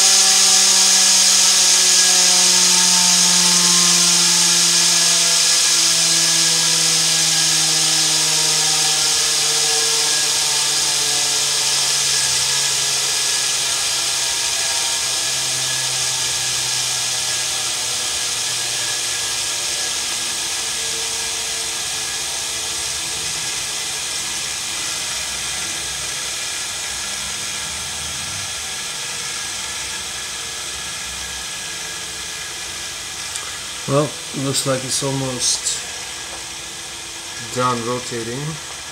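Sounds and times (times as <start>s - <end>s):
turbine whine and hiss: 0.0s - 38.9s.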